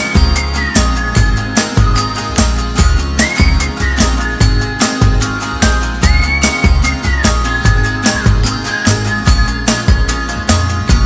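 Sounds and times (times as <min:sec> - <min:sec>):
bass-heavy beat: 0:00.0 - 0:11.0
high sliding melody line: 0:00.0 - 0:11.0.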